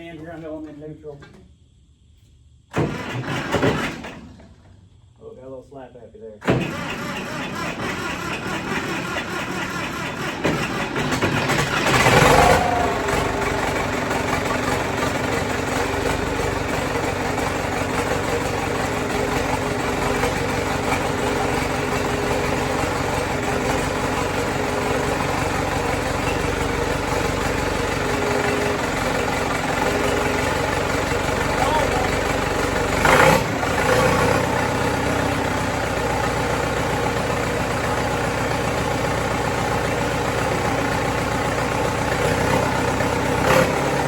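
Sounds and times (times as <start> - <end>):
diesel engine running: 2.7 - 5.2, 6.4 - 44.0.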